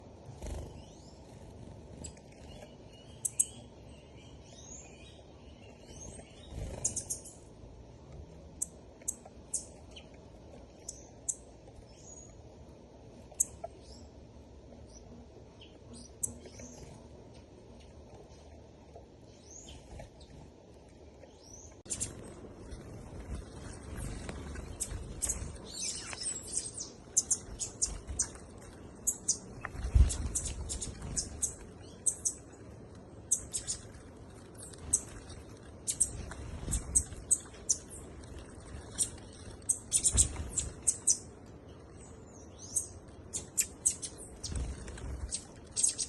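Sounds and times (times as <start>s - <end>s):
low background noise: 0.0s - 46.0s
small birds chirping: 0.0s - 46.0s.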